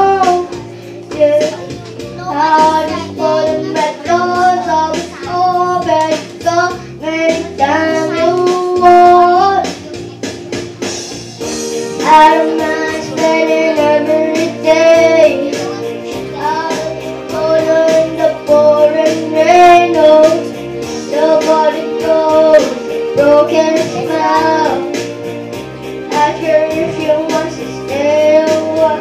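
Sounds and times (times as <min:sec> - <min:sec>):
boy singing pop song: 0:00.0 - 0:29.0
instrumental music with beat: 0:00.0 - 0:29.0.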